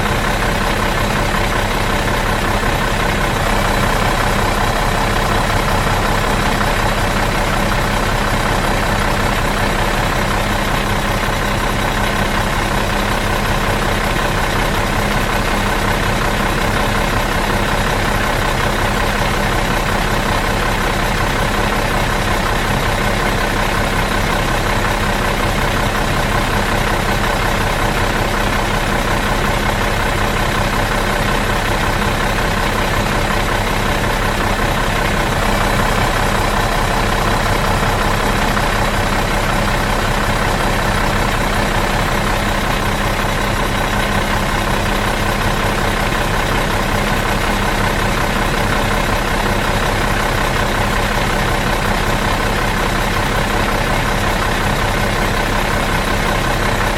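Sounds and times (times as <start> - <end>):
bus engine idling: 0.0 - 56.9.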